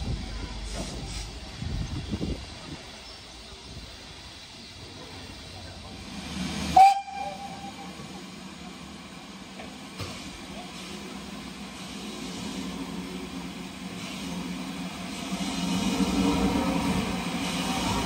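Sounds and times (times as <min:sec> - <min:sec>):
train rumble and hiss: 0:00.0 - 0:18.0.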